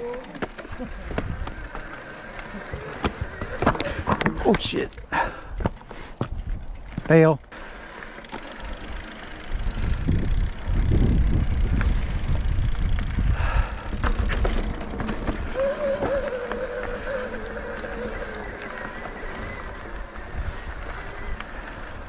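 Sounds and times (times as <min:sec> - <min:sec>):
bike rattling over dirt trail: 0:00.0 - 0:22.0.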